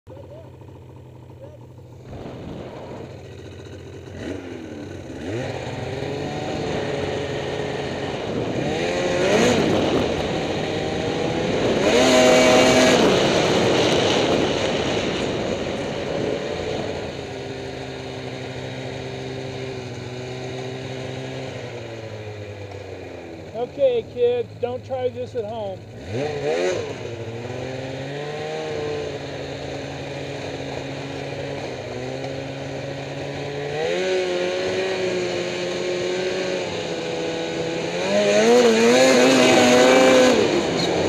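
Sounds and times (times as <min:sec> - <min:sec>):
snowmobile engine revving: 0:01.3 - 0:41.0.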